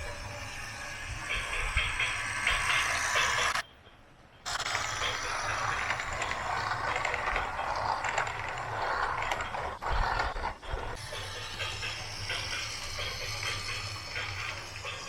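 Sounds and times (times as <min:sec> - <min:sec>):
toy machine motors whirring and rattling: 0:00.0 - 0:03.6, 0:04.5 - 0:15.0.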